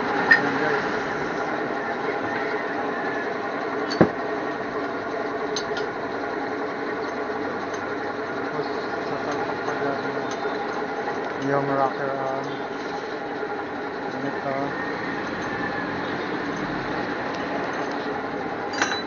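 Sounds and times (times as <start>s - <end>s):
machine droning: 0.0s - 19.0s.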